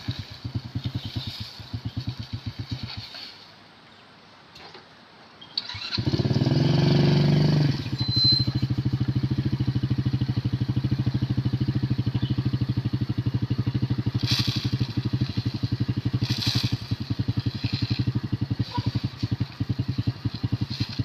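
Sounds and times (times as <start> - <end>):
motor tricycle engine idling: 0.0 - 3.6, 5.4 - 21.0.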